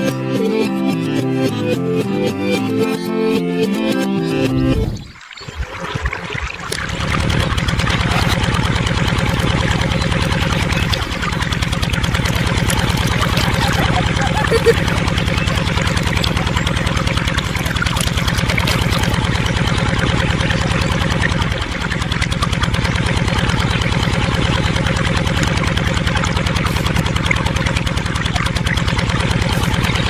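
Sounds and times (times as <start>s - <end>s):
small water pump motor buzzing: 4.3s - 30.0s.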